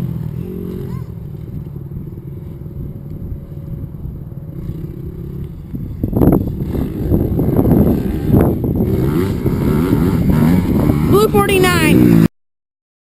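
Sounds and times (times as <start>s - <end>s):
dirt bike engine running: 0.0s - 12.3s.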